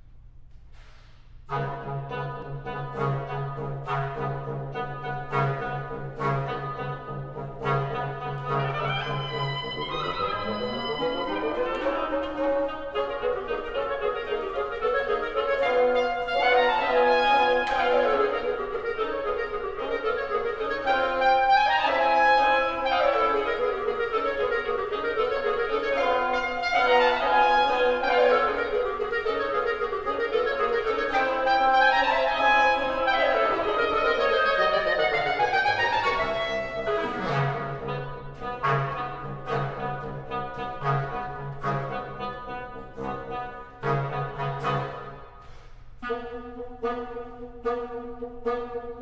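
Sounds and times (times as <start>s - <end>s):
woodwind trio playing: 0.8s - 49.0s.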